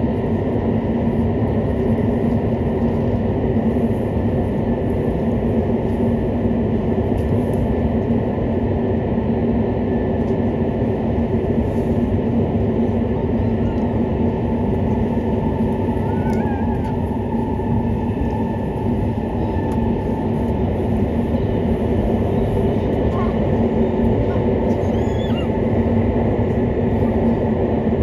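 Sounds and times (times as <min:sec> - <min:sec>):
constant low hum: 0:00.0 - 0:28.0
train wheels rumbling on rail: 0:00.0 - 0:28.0.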